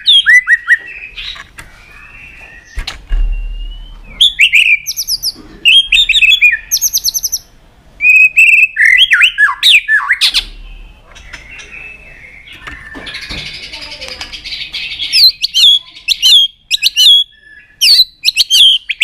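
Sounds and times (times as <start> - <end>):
bird singing whistled notes: 0.0 - 1.2, 1.8 - 13.3, 15.1 - 19.0.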